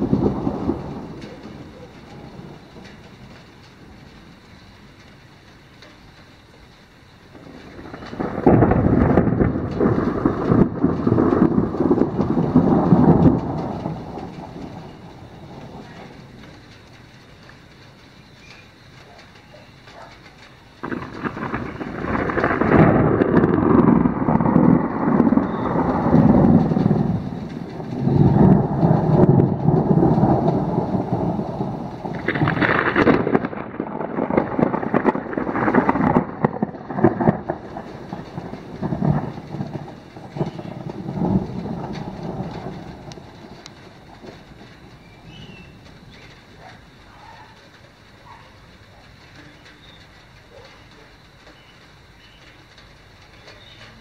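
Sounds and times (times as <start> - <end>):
thunder rolling: 0.0 - 54.0.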